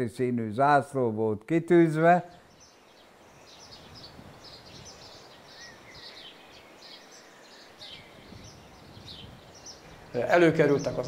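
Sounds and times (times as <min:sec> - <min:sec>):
faint outdoor background noise: 0:00.0 - 0:11.0
birds chirping: 0:01.7 - 0:11.0.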